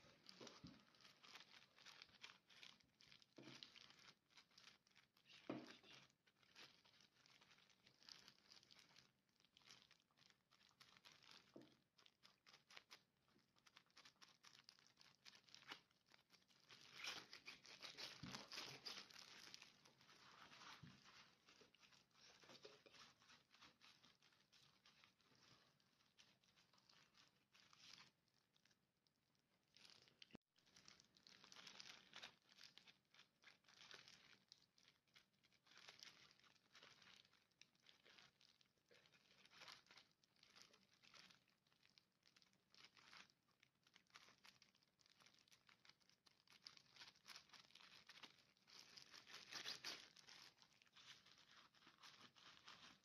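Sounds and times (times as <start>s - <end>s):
plastic gloves crinkling: 0.0s - 53.0s.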